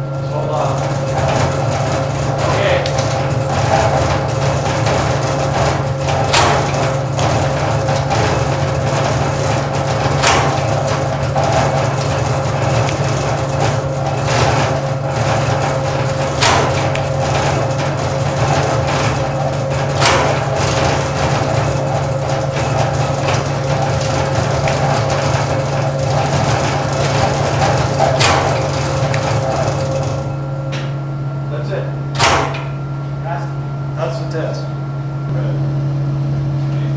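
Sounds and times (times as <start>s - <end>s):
shake table hum: 0.0s - 31.0s
constant whine: 0.0s - 36.9s
sharp clacks: 0.6s - 30.9s.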